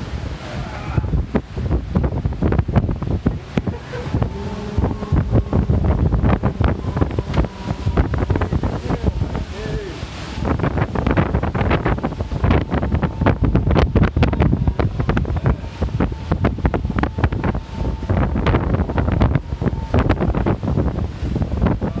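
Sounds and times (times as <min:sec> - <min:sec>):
surf and flood water washing: 0:00.0 - 0:22.0
wind buffeting microphone: 0:00.0 - 0:22.0.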